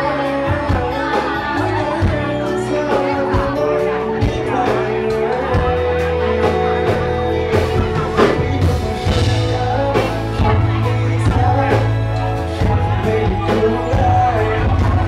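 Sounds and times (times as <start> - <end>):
live rock band playing: 0.0 - 15.0
person singing: 0.0 - 15.0.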